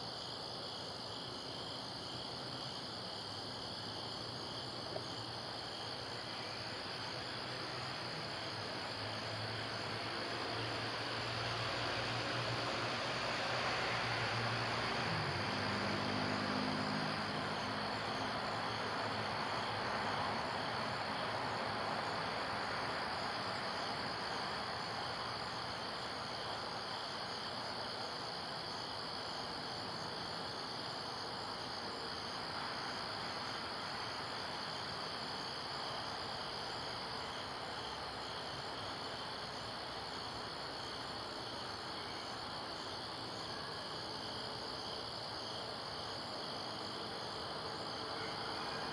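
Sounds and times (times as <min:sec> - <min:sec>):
night insects chirping: 0:00.0 - 0:48.9.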